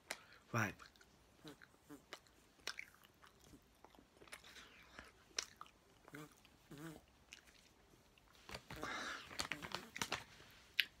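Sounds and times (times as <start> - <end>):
person chewing with wet smacks: 0.0 - 11.0.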